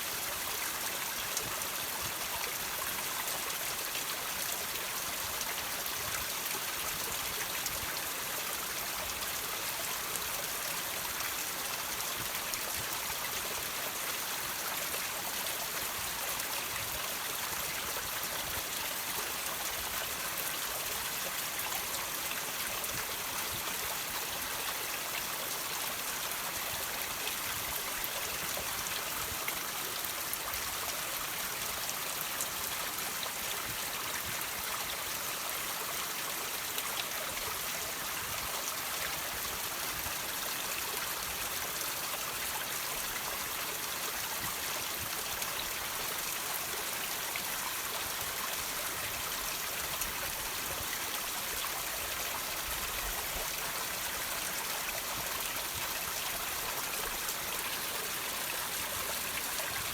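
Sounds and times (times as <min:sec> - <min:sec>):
water trickling over rocks: 0:00.0 - 0:59.9.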